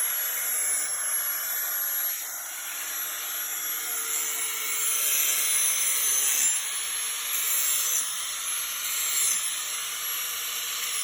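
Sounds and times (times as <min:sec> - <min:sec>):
grinder grinding steel blade: 0:00.0 - 0:11.0
grinder motor tone: 0:00.0 - 0:11.0.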